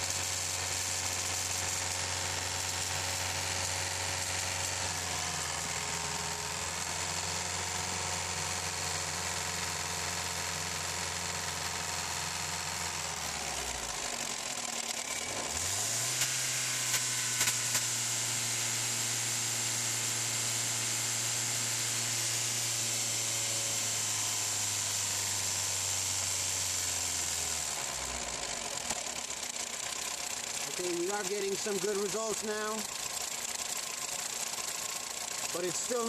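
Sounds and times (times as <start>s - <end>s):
petrol engine idling and revving: 0.0s - 36.0s.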